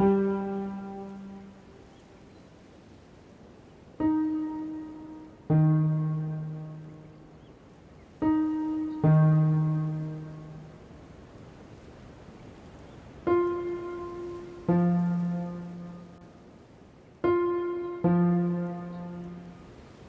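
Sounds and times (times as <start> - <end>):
piano notes ringing: 0.0 - 2.1, 4.0 - 11.2, 13.1 - 20.0.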